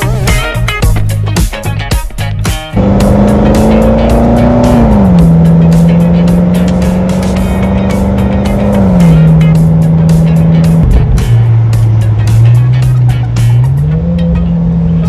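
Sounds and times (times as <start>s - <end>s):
background music with steady beat: 0.0s - 15.0s
sliding bass note: 2.8s - 15.0s.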